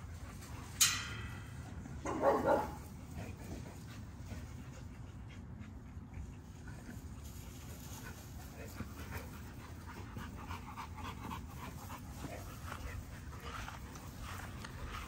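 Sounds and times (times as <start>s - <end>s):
dogs panting: 2.2s - 15.0s.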